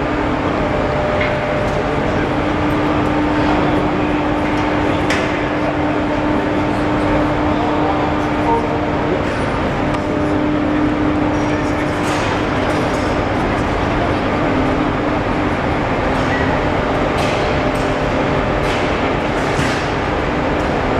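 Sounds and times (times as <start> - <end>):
overhead crane running: 0.0 - 20.9
steady hum: 0.0 - 20.9.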